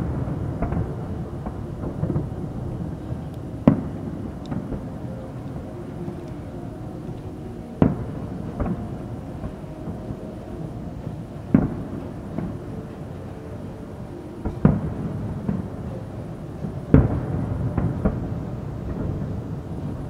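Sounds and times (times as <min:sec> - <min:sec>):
fireworks booming with rolling rumble: 0:00.0 - 0:20.0.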